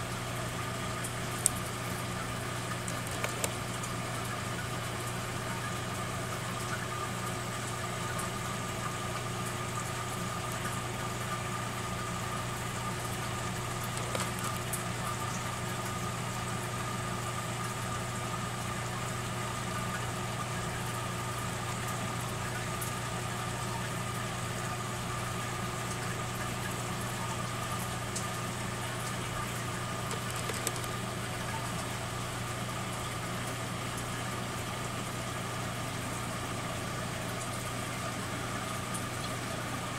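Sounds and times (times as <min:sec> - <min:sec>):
aquarium equipment humming: 0:00.0 - 0:39.9.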